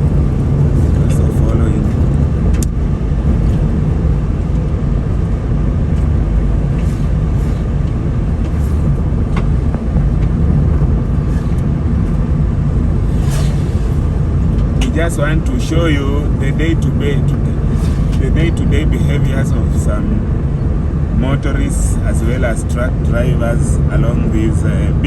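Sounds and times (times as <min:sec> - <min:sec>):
car engine and tyres on road: 0:00.0 - 0:25.0.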